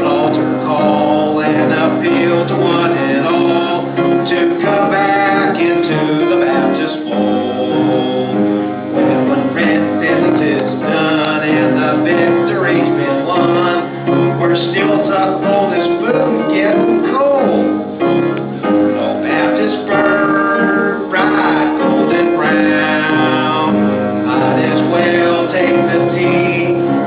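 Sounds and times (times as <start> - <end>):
man singing: 0.0 - 8.5, 9.1 - 17.9, 18.9 - 27.0
piano: 0.0 - 27.0.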